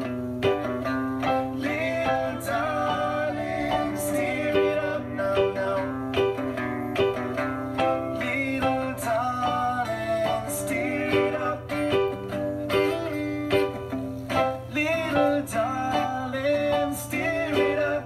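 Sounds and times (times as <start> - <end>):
plucked guitar-like notes: 0.0 - 18.0
reggae keyboard chords: 0.0 - 18.0.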